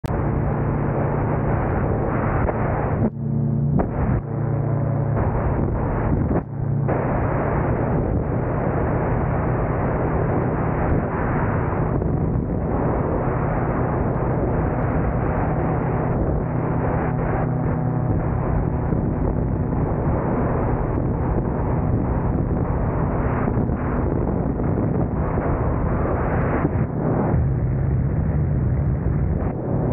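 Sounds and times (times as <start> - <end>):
aircraft engine and propeller: 0.0 - 29.9
wind buffeting microphone: 0.1 - 29.9.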